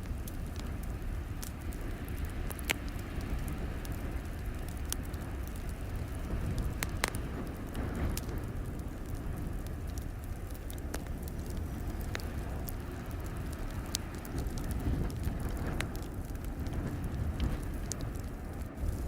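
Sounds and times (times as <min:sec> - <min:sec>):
low rumble of fire: 0:00.0 - 0:19.0
wood fire crackling and popping: 0:00.0 - 0:19.0.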